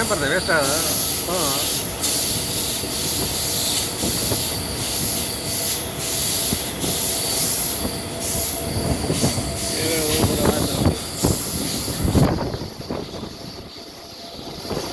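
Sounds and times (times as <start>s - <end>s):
train rumbling on rails: 0.0s - 14.9s.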